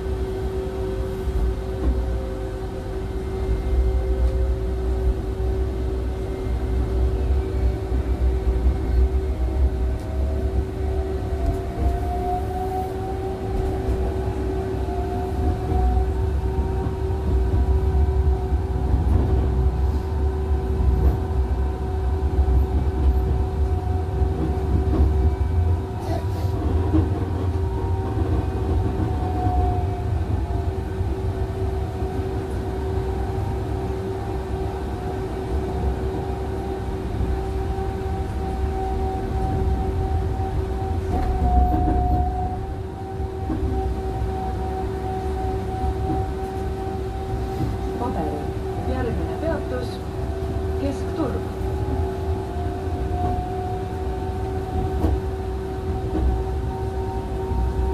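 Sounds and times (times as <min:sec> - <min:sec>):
tram rumbling along rails: 0:00.0 - 0:57.9.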